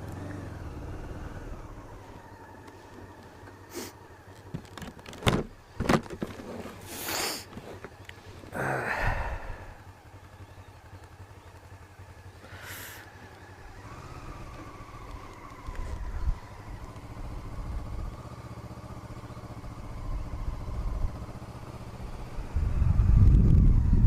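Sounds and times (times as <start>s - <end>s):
motorcycle engine at low revs: 0.0s - 24.0s.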